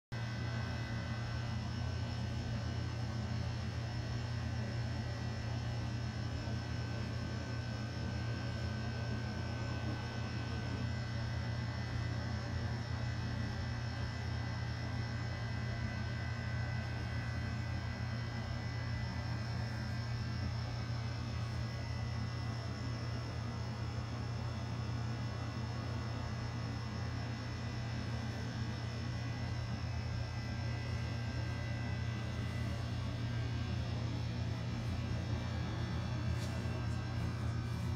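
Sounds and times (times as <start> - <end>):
low electrical hum: 0.2 - 37.9.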